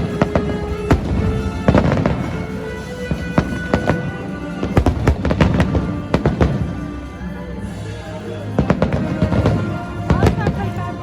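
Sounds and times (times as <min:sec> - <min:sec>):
fireworks banging: 0:00.0 - 0:07.0, 0:08.6 - 0:11.0
music playing: 0:00.0 - 0:11.0.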